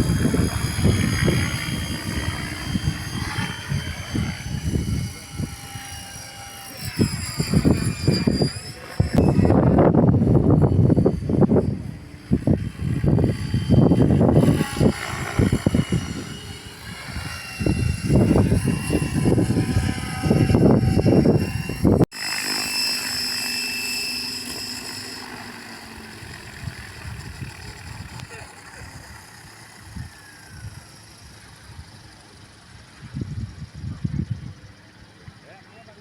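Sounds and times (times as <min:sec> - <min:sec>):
wind buffeting microphone: 0:00.0 - 0:22.1, 0:25.3 - 0:35.4
model airplane propeller droning: 0:00.0 - 0:36.0.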